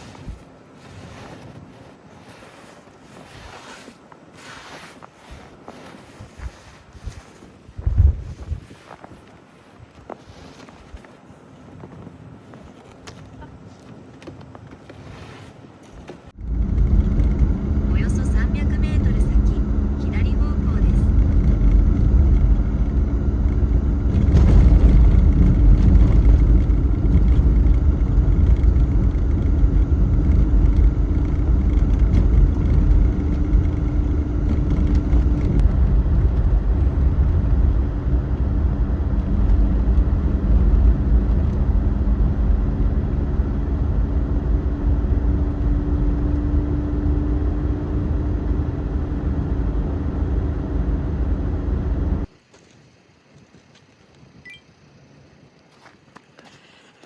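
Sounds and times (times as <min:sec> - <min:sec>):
van engine and road noise: 0:00.0 - 0:52.4.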